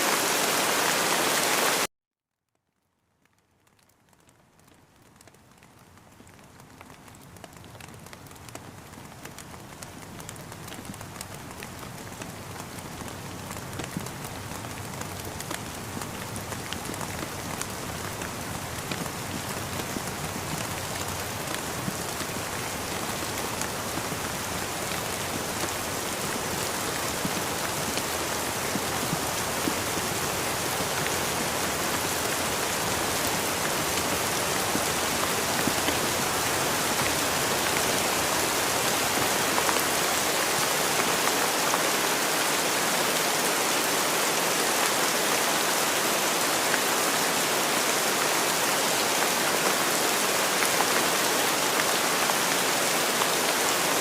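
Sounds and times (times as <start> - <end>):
steady rain with drop taps: 0.0 - 1.9, 2.6 - 54.0.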